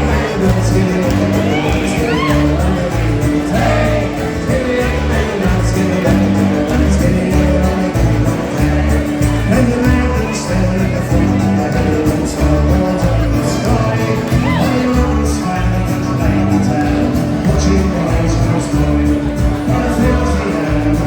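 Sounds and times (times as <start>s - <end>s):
folk band playing: 0.0s - 21.0s
voices singing along: 0.0s - 21.0s.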